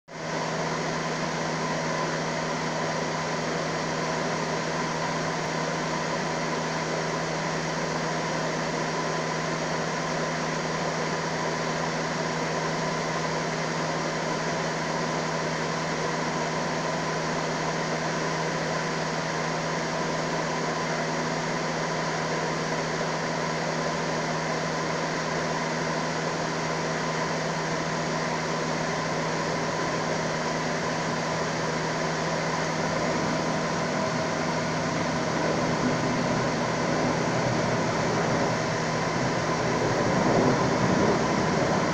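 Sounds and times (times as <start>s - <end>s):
mechanical hum: 0.1s - 41.9s.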